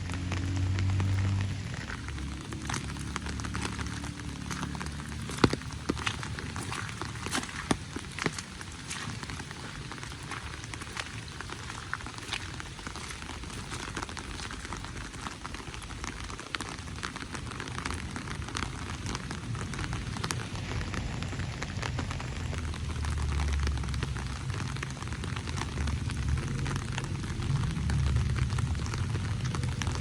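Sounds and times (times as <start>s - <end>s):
low rumble: 0.0s - 15.2s, 18.7s - 30.0s
rain drops ticking: 0.0s - 30.0s.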